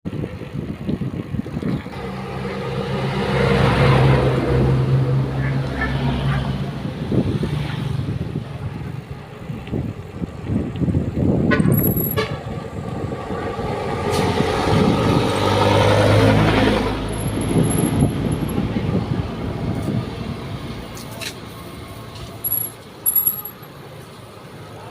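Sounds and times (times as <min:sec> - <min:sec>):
heavy trucks passing: 0:01.8 - 0:09.3, 0:11.3 - 0:24.5.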